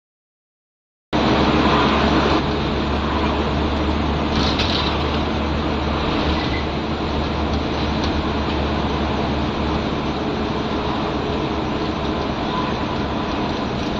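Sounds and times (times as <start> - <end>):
bus diesel engine running: 1.2 - 13.9
road noise: 1.2 - 13.9.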